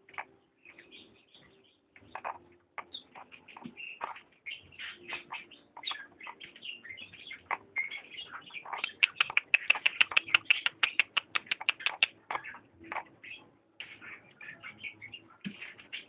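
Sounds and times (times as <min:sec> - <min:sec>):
chicks cheeping: 0:00.0 - 0:16.0.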